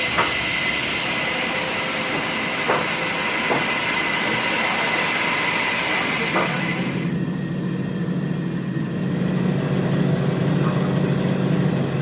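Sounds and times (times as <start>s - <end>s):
woodworking machinery running: 0.0s - 12.0s.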